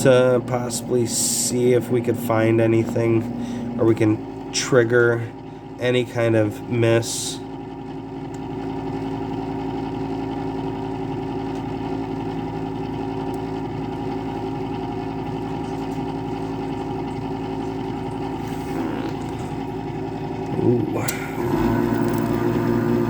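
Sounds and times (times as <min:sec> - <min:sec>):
furnace droning hum: 0:00.0 - 0:23.0.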